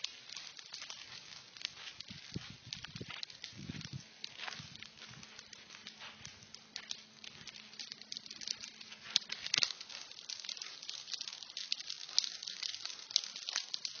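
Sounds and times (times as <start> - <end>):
fire crackling and snapping: 0.0 - 14.0.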